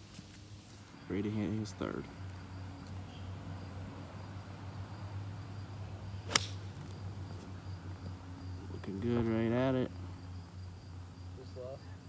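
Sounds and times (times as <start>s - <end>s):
constant low hum: 0.0s - 12.0s
insects chirping faintly: 0.0s - 12.0s.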